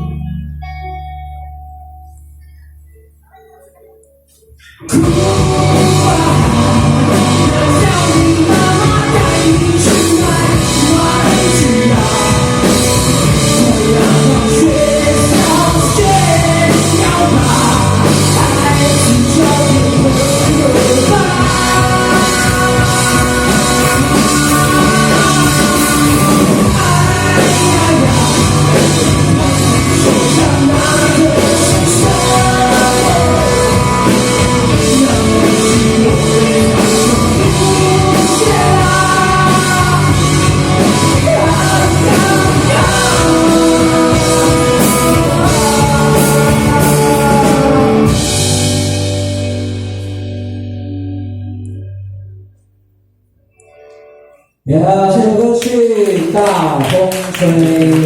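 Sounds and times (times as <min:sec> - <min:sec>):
rock band playing: 0:00.0 - 0:02.4, 0:04.5 - 0:51.6
person singing: 0:01.4 - 0:48.8.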